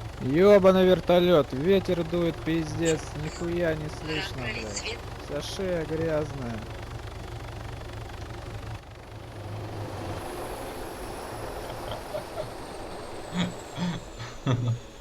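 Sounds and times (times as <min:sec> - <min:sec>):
helicopter turbine whine: 0:00.0 - 0:15.0
rotor and wind rush: 0:02.4 - 0:15.0.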